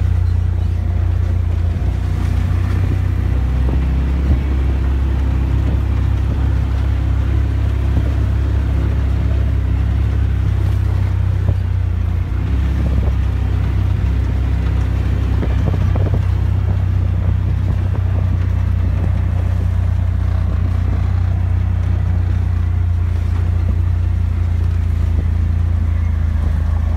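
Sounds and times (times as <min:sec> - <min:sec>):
engine droning: 0:00.0 - 0:26.9
rattly road noise: 0:00.0 - 0:26.9.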